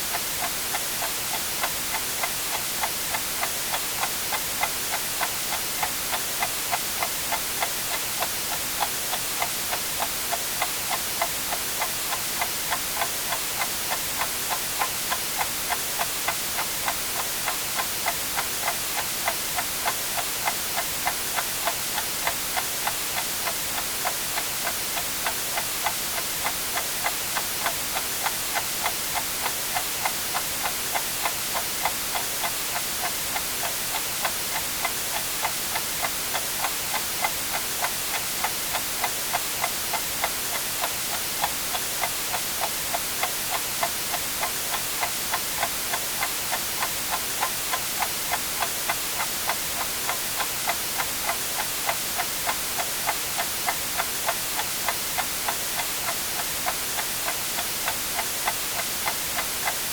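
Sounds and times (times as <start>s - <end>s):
white noise hiss: 0.0s - 59.9s
clock ticking: 0.1s - 59.9s.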